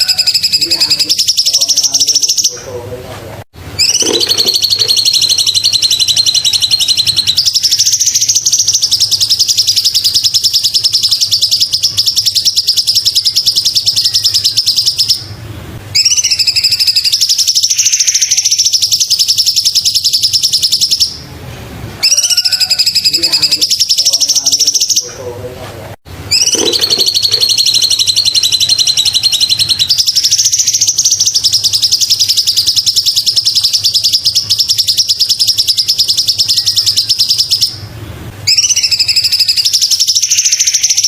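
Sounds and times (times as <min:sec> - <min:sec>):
songbird trilling: 0:00.0 - 0:02.8, 0:03.8 - 0:15.3, 0:16.0 - 0:21.2, 0:22.0 - 0:25.3, 0:26.3 - 0:37.9, 0:38.5 - 0:41.0.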